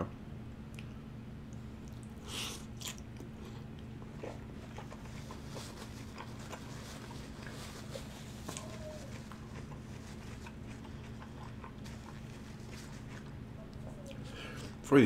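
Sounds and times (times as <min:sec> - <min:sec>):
steady low hum: 0:00.0 - 0:15.0
close chewing and mouth sounds: 0:00.6 - 0:14.9
lip smacks: 0:00.7 - 0:06.7, 0:08.5 - 0:14.9.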